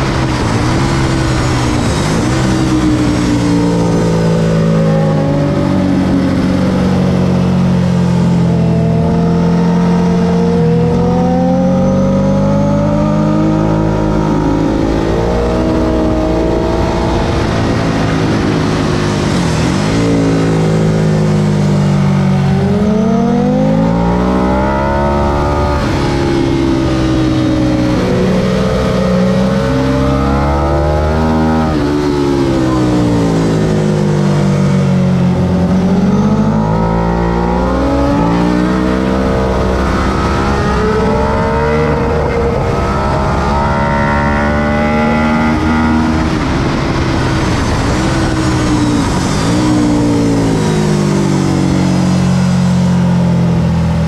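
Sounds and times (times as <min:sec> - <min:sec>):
motorcycle engine revving hard: 0:00.0 - 0:54.0.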